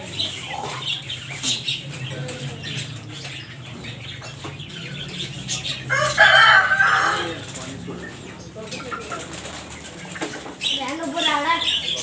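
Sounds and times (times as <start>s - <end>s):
budgerigars chirping: 0.0s - 12.0s
chickens clucking: 0.0s - 12.0s.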